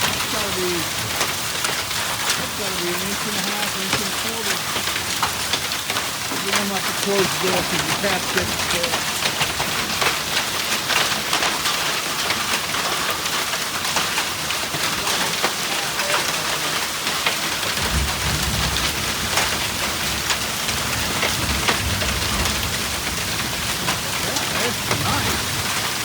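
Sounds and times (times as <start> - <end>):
hailstones clicking: 0.0 - 26.0
heavy rain hissing: 0.0 - 26.0.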